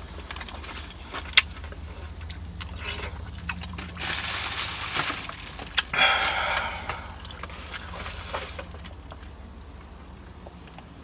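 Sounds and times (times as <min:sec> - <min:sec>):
crunching and rustling: 0:00.0 - 0:10.9
low steady hum: 0:00.0 - 0:11.0.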